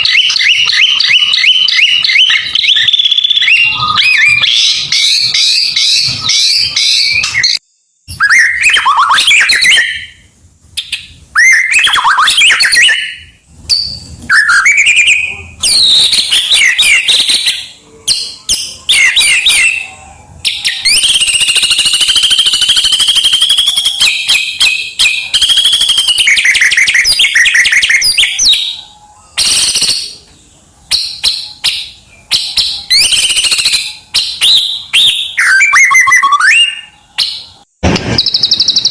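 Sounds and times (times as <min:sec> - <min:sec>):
songbird singing: 0:00.0 - 0:37.6.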